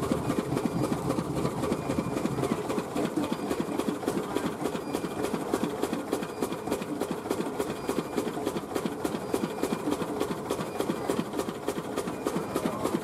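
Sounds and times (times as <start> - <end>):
machine clattering rattle: 0.0 - 13.0.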